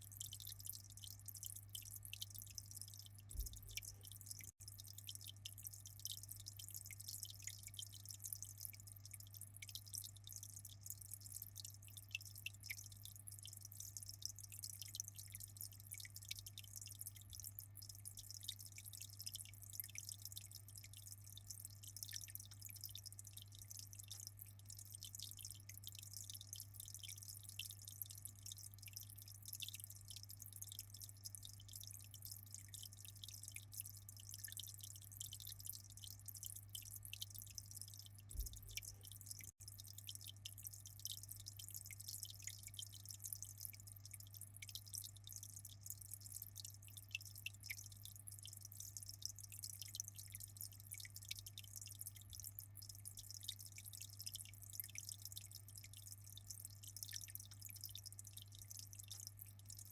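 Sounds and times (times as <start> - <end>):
aquarium water trickling: 0.0 - 59.9
low steady hum: 0.0 - 59.9.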